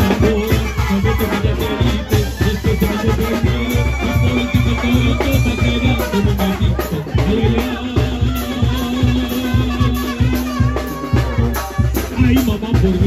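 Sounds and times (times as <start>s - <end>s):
percussion keeping the beat: 0.0s - 13.0s
sousaphone bass line: 0.0s - 13.0s
trumpet and trombone notes: 0.0s - 13.0s.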